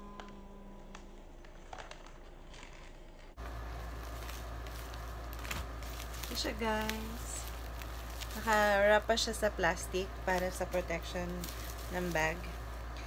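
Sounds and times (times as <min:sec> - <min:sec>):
small crackles: 0:00.0 - 0:13.0
plastic packaging crinkling: 0:00.1 - 0:13.0.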